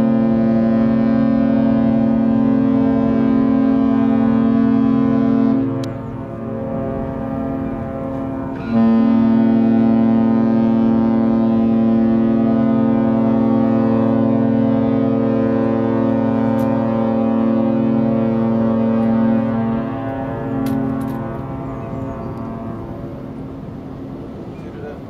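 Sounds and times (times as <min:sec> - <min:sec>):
ship horn blast: 0:00.0 - 0:25.0.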